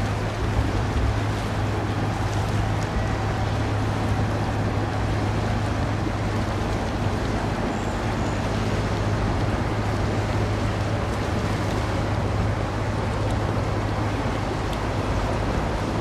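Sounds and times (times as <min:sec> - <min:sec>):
continuous rushing noise: 0:00.0 - 0:16.0
low mechanical hum: 0:00.0 - 0:16.0.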